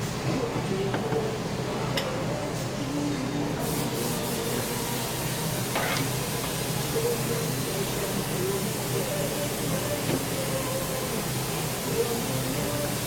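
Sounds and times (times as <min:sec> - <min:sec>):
hissing workshop background: 0:00.0 - 0:13.0.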